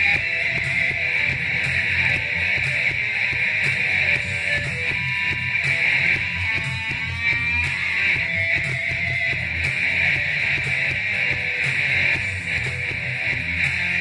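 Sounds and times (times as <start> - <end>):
heavy electric guitar riff: 0.0 - 14.0.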